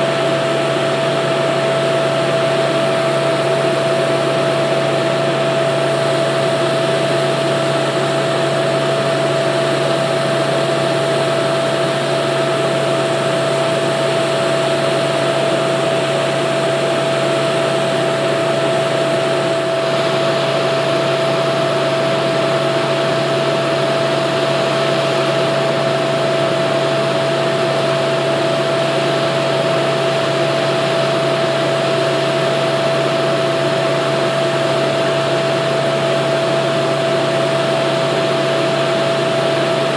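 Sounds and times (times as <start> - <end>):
hydraulic pump whine: 0.0 - 39.9
truck engine running: 0.0 - 39.9.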